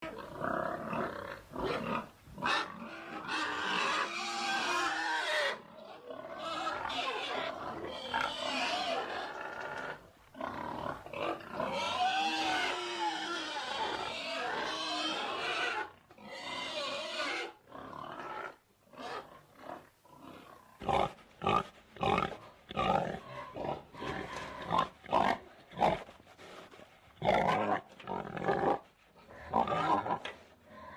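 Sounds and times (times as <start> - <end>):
pig grunting: 0.0 - 30.9.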